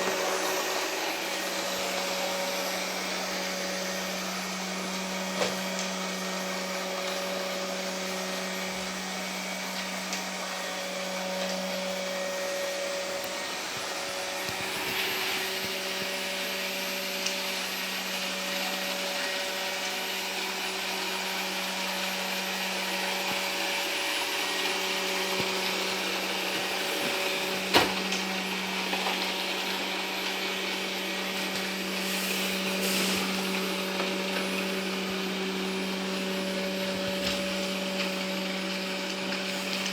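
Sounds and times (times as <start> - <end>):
robot vacuum motor hum: 0.0 - 39.9.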